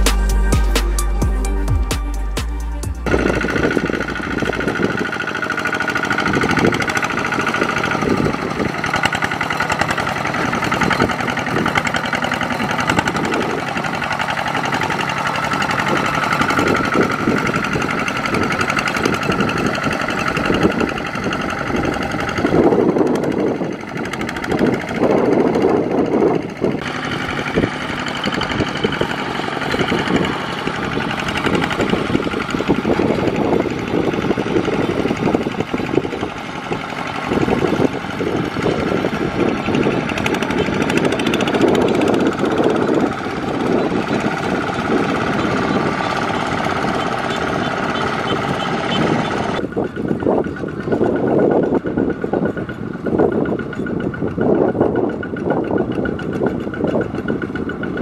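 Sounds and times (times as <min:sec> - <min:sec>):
diesel engine knocking beat: 0:00.0 - 0:58.0.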